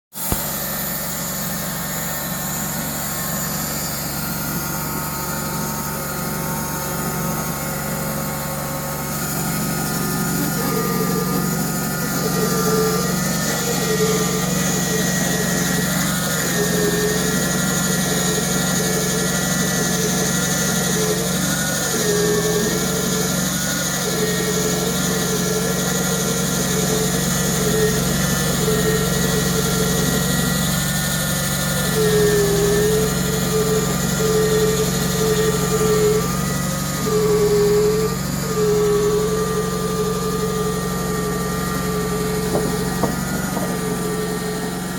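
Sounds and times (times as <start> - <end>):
sawmill engine running: 0.1 - 44.9.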